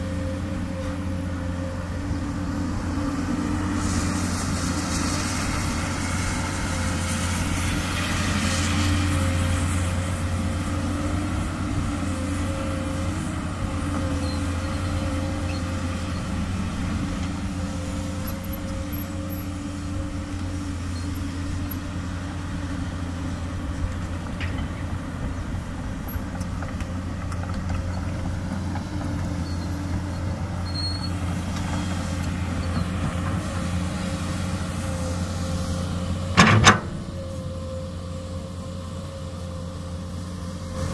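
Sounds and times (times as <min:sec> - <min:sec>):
excavator diesel engine droning: 0:00.0 - 0:40.9.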